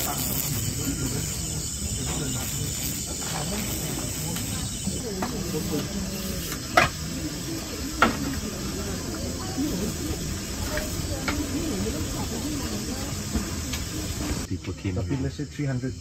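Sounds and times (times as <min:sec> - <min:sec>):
gas stove burner hissing: 0:00.0 - 0:14.5.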